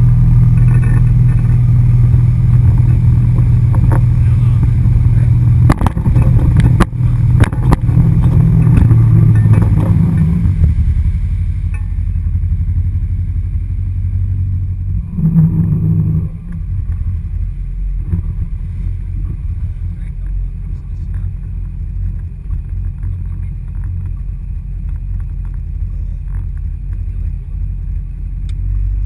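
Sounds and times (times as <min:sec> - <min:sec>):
boat engine running: 0:00.0 - 0:29.0
water rushing along hull: 0:00.0 - 0:29.0.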